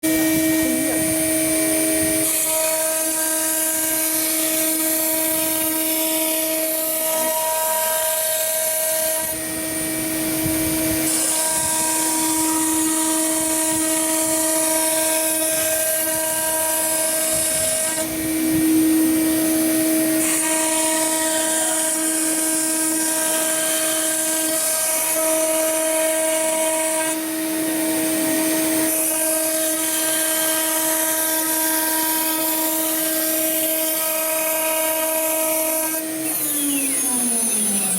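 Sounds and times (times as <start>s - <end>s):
router spindle whining: 0.0s - 37.9s.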